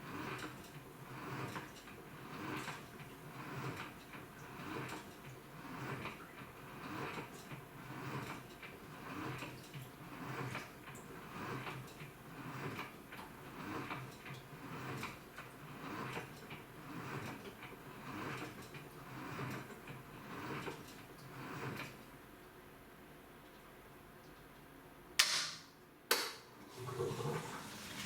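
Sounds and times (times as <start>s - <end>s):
washing machine agitating: 0.0s - 22.3s, 26.3s - 28.0s.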